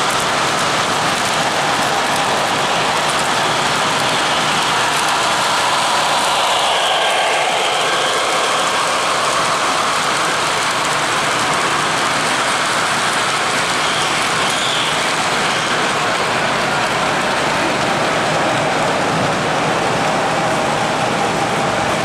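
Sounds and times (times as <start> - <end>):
model train wheels hissing on rail: 0.0 - 19.8.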